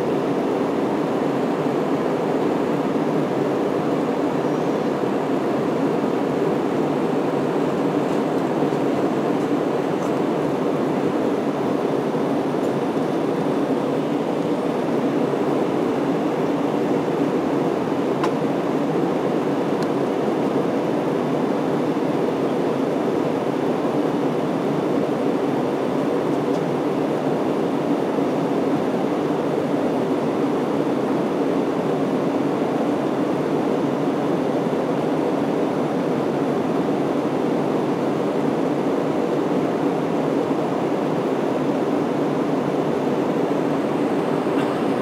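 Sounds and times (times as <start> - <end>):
airplane cabin engine rush: 0.0 - 45.0.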